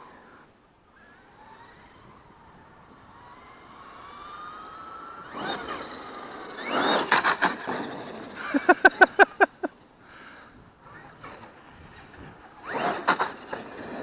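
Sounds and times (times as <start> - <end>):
electric motor whine: 0.0 - 8.6, 10.9 - 14.0
tyre and drivetrain noise: 0.9 - 14.0.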